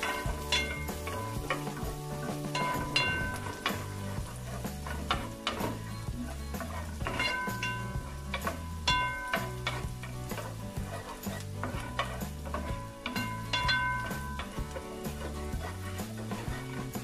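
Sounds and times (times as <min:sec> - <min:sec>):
background music with bass: 0:00.0 - 0:17.0
garlic and butter sizzling: 0:00.0 - 0:17.0
spoon scraping metal pot: 0:00.0 - 0:17.0.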